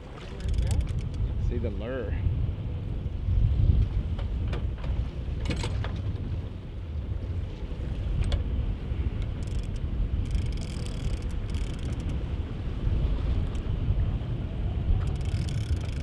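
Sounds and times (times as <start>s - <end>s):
boat engine rumble: 0.0s - 16.0s
wind buffeting microphone: 0.0s - 16.0s.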